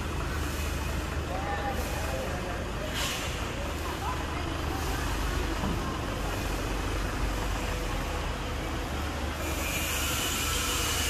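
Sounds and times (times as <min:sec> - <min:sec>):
truck engine rumble: 0:00.0 - 0:11.0
tyre and road noise: 0:00.0 - 0:11.0.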